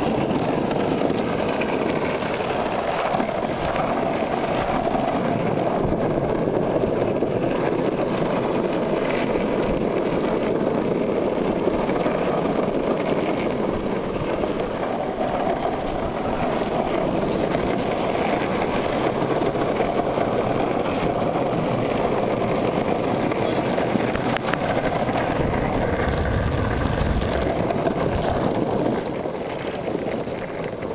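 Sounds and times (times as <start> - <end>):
skateboard wheels rolling on asphalt: 0.0 - 30.9.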